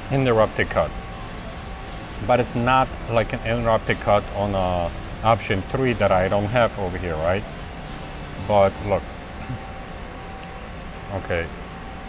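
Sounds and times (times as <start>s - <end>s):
faint high whine: 0.0s - 12.0s
machine shop hum: 0.0s - 12.0s.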